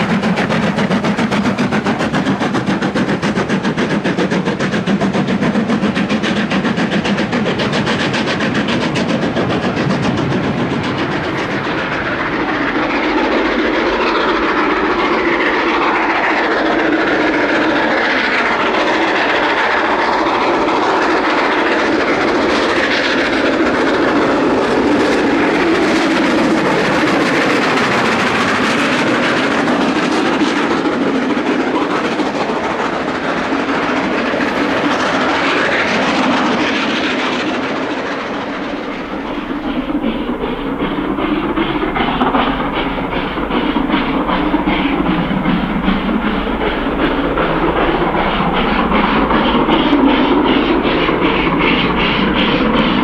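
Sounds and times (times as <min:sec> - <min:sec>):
steam locomotive working hard: 0:00.0 - 0:53.0.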